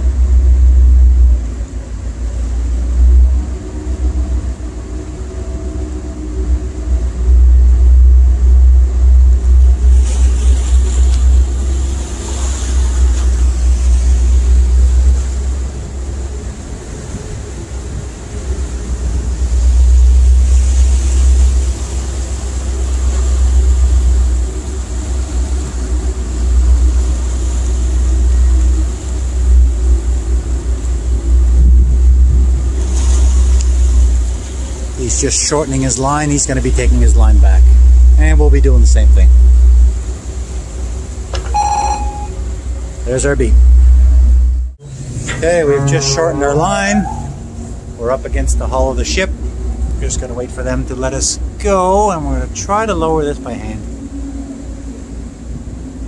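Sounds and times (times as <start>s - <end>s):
tugboat engine rumbling: 0.0s - 56.0s.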